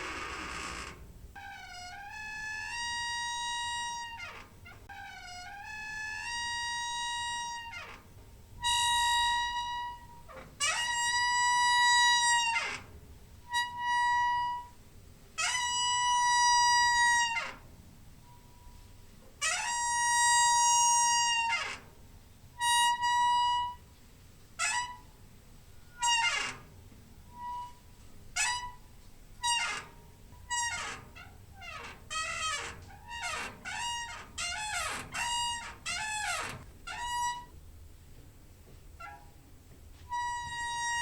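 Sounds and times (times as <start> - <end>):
door hinge squeaking: 0.0 - 14.8, 15.4 - 21.9, 22.6 - 23.9, 24.6 - 25.2, 25.8 - 37.6, 39.0 - 39.4, 40.1 - 41.0.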